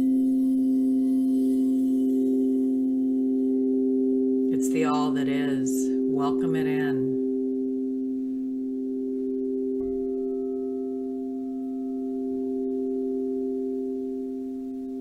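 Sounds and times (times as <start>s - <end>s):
bowl struck: 0.0s - 15.0s
singing bowls ringing: 0.0s - 15.0s.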